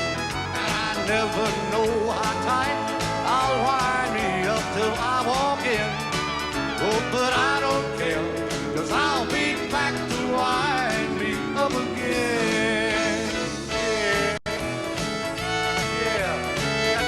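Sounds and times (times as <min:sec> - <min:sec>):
country band playing instrumental: 0:00.0 - 0:17.0.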